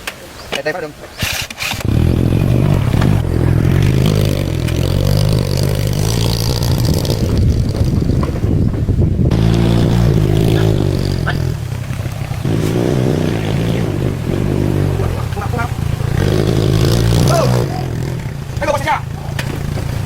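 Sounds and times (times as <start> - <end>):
motorbike engine idling: 1.8 - 20.0.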